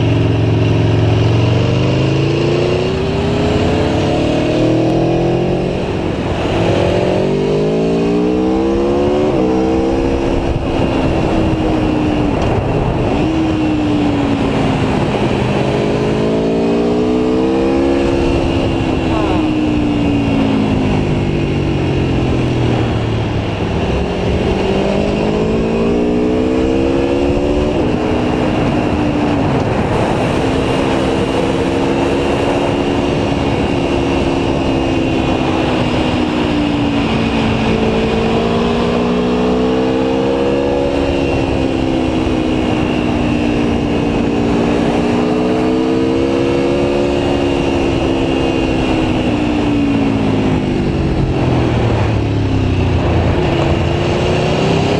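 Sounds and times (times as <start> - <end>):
motorcycle engine revving: 0.0 - 54.9
wind and road noise: 0.0 - 54.9.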